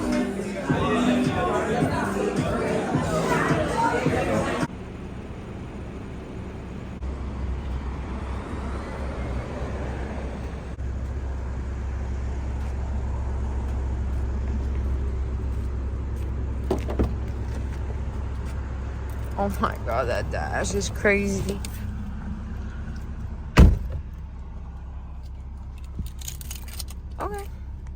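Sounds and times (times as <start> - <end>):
car engine humming: 0.0 - 27.9.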